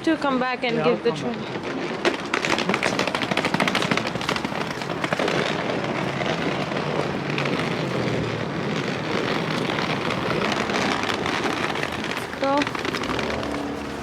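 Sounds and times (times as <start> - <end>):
shopping cart rattling: 0.0 - 14.0.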